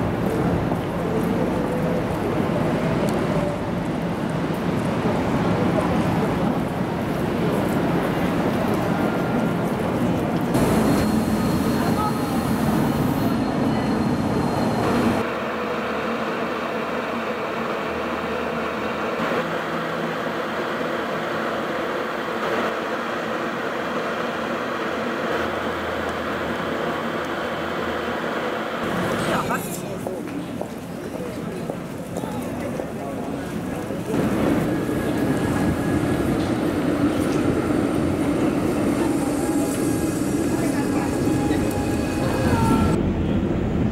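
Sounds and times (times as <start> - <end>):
city street noise: 0.0 - 43.9
tram rumble and hum: 0.0 - 43.9
tram running on rails: 0.0 - 43.9.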